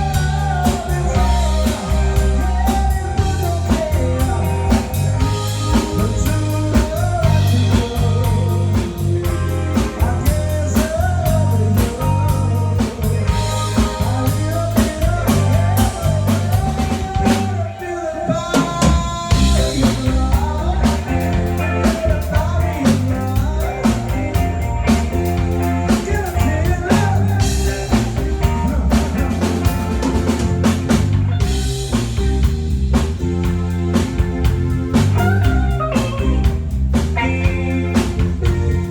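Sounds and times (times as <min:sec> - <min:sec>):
drum kit steady beat: 0:00.0 - 0:17.6, 0:18.5 - 0:38.9
rock band playing live: 0:00.0 - 0:38.9.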